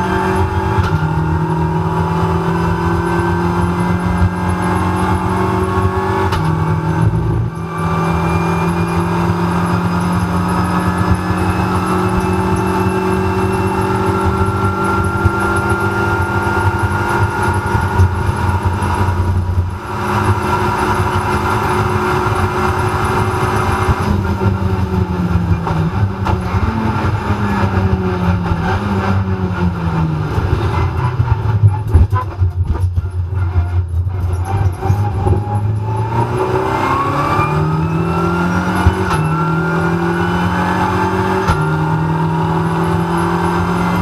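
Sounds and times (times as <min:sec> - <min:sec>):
race car engine running hard: 0:00.0 - 0:44.0.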